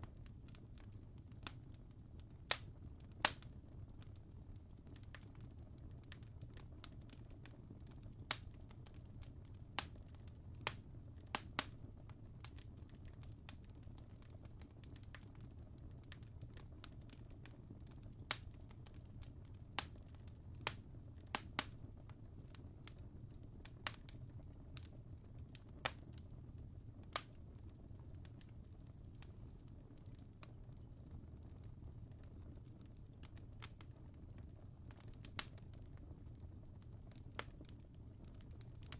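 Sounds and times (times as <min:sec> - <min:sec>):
fire crackling and popping: 0:00.0 - 0:38.9
low fire rumble: 0:00.0 - 0:38.9.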